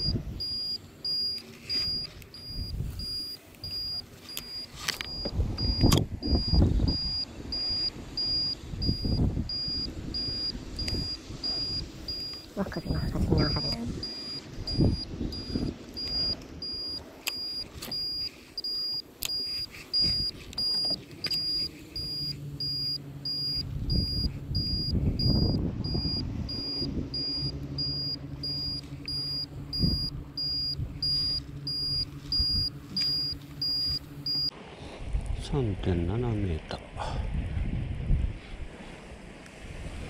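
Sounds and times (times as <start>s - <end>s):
high electronic beeps: 0.0s - 34.5s
small electric motor humming: 0.0s - 34.5s.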